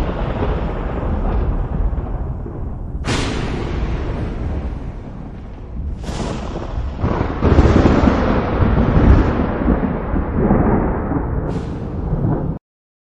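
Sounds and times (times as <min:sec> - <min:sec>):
rolling thunder rumble: 0:00.0 - 0:12.6
thunder crack: 0:00.0 - 0:12.6.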